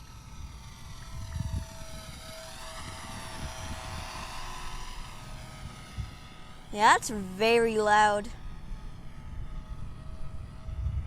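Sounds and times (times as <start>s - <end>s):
small electric motor propeller buzzing: 0.0s - 11.0s.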